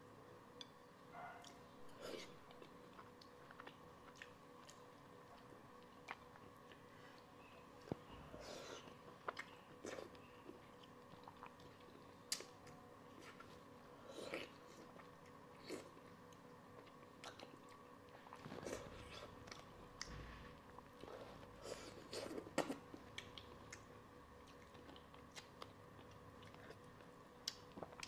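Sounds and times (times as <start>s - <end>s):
soft chewing and wet sucking: 1.4s - 28.0s.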